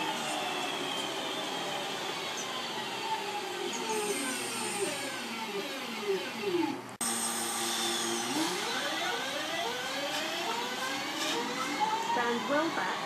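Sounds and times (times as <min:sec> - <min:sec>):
train motors whining: 0:00.0 - 0:13.0.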